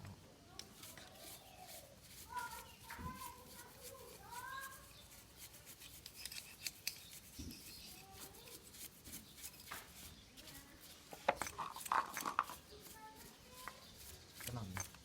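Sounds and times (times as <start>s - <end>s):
clicks and scrapes on metal: 0.6s - 15.0s.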